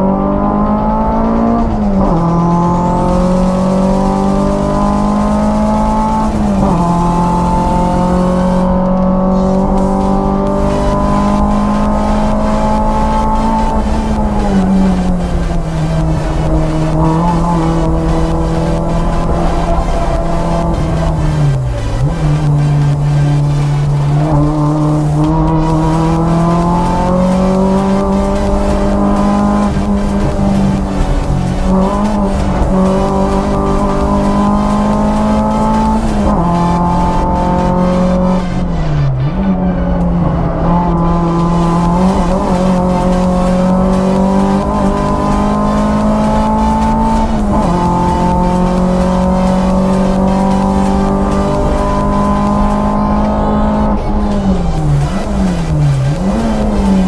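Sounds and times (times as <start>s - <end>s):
car engine revving at high revs: 0.0s - 57.0s.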